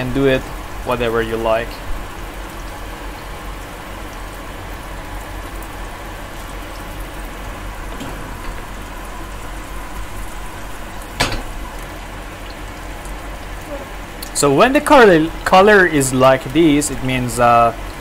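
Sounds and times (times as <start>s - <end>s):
squash sizzling in oil: 0.0s - 18.0s.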